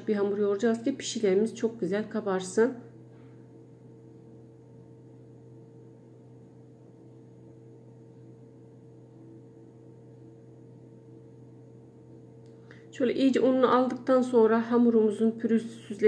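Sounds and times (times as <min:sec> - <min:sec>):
low hum with faint hiss: 0:00.0 - 0:16.0.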